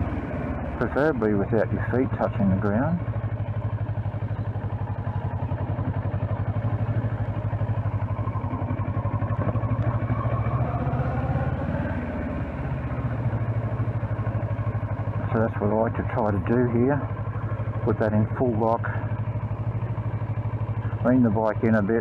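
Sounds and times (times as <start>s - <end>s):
motorcycle engine running at low revs: 0.0s - 22.0s.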